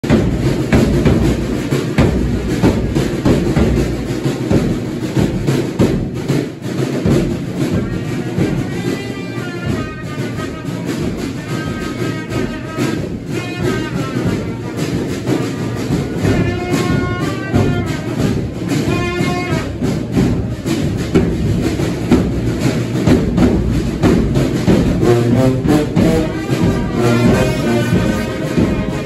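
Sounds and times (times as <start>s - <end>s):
brass band playing: 0.0s - 29.0s
drums beating: 0.0s - 29.0s.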